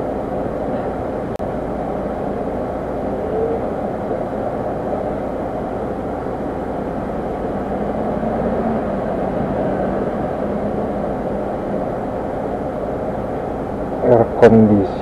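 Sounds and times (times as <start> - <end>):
constant rushing noise: 0.0 - 15.0
faint hum: 0.0 - 15.0.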